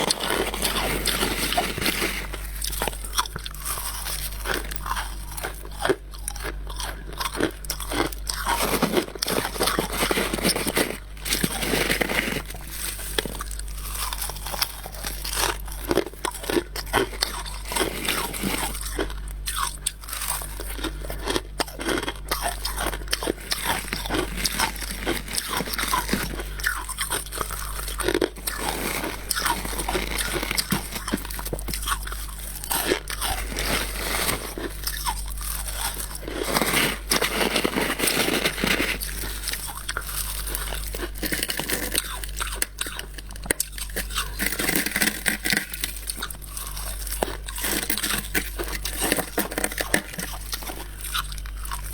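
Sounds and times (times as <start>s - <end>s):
chewing frost crunches: 0.0s - 51.9s.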